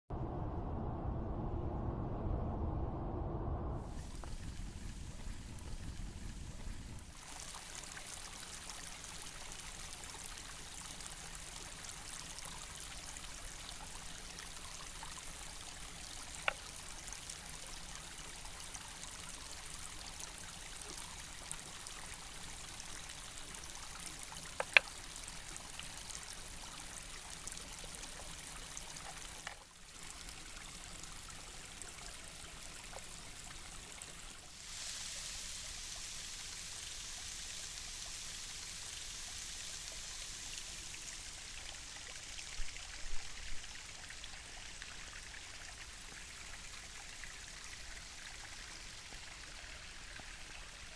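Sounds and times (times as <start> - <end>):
stream flowing: 3.9 - 50.9.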